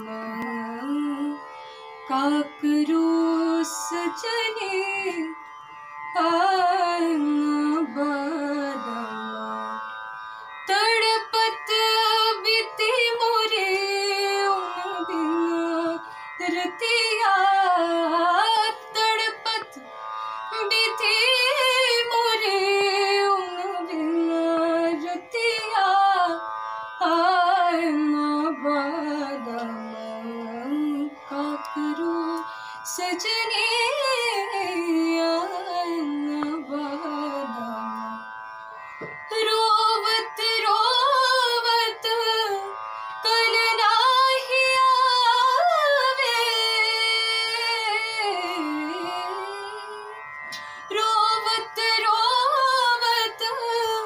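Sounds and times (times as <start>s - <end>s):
woman singing classical vocals: 0.0s - 1.4s, 2.0s - 5.4s, 6.1s - 9.8s, 10.6s - 19.8s, 20.5s - 26.4s, 27.0s - 38.2s, 39.3s - 54.0s.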